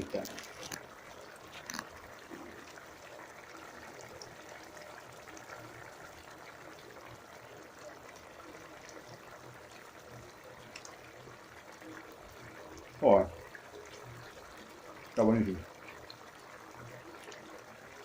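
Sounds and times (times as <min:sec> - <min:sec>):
stew bubbling gently: 0:00.0 - 0:18.0.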